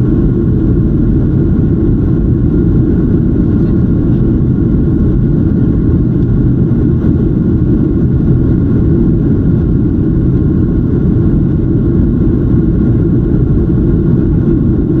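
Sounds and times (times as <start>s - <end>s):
faint high hum: 0.0s - 15.0s
jet engines and rushing air: 0.0s - 15.0s.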